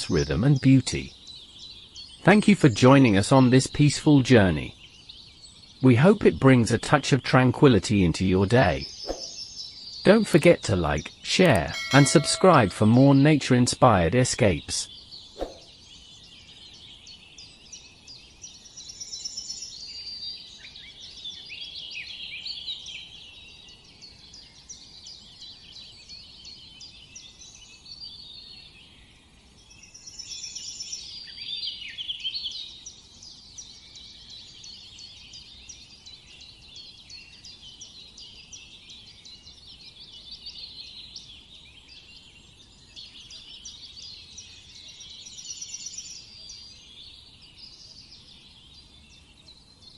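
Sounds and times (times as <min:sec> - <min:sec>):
songbirds chirping and twittering: 0:00.0 - 0:49.9.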